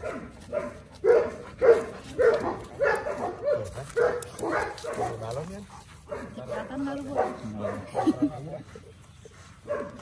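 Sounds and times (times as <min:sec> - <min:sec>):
dog barking: 0:00.0 - 0:08.3, 0:09.6 - 0:10.0.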